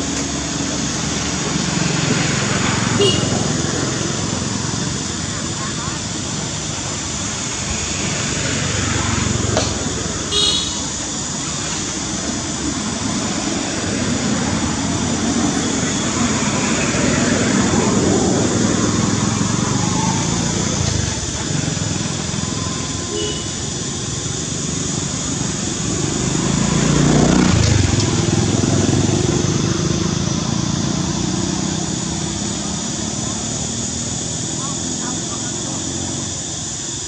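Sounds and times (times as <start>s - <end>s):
vehicles passing on road: 0.0s - 37.0s.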